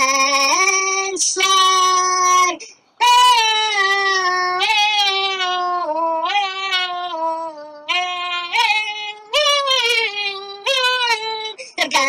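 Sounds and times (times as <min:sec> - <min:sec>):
high voice singing wordless notes: 0:00.0 - 0:12.0.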